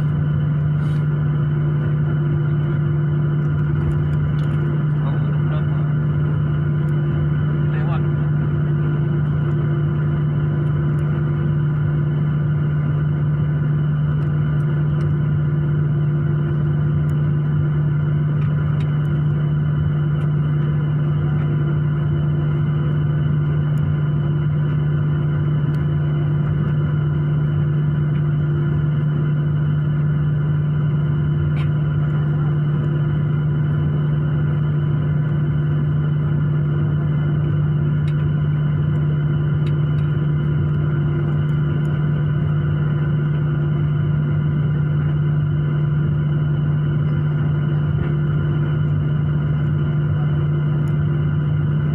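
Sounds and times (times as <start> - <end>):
jet engines droning in cabin: 0.0 - 51.9.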